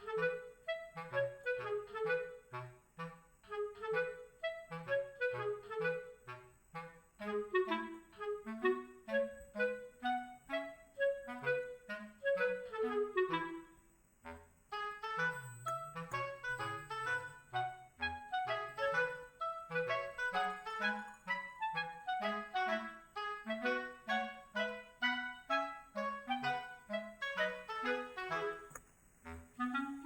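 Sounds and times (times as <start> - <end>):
light woodwind tune with bass: 0.0 - 30.0.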